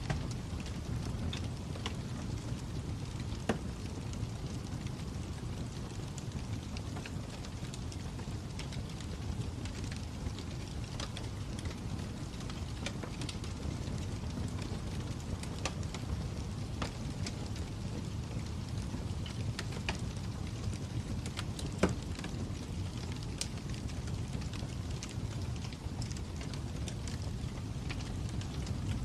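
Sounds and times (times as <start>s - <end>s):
fire crackling with pops: 0.0s - 29.0s.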